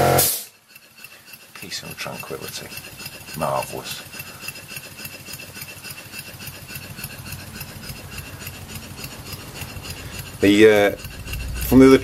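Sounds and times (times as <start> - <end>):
model steam engine puffing: 0.0 - 10.4.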